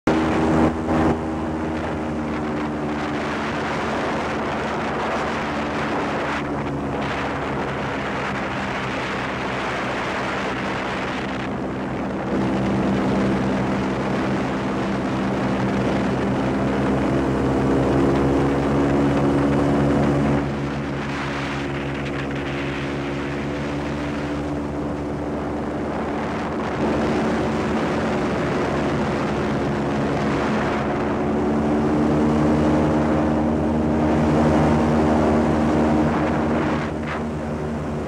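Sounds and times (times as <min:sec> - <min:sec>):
airboat engine and propeller drone: 0:00.0 - 0:38.0.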